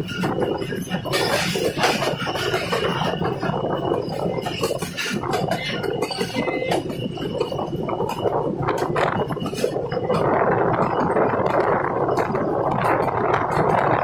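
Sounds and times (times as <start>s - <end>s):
train coach rumble and rush: 0.0s - 14.0s
wheel clicks and rattles: 0.0s - 14.0s.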